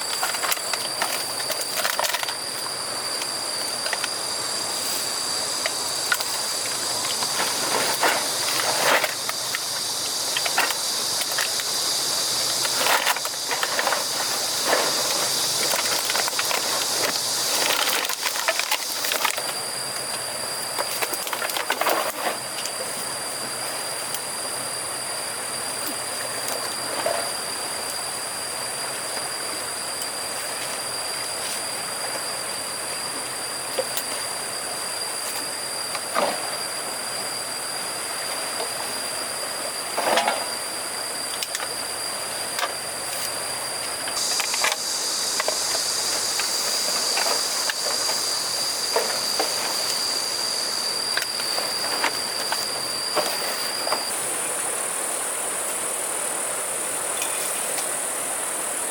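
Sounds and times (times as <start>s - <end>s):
insects buzzing: 0.0s - 58.9s.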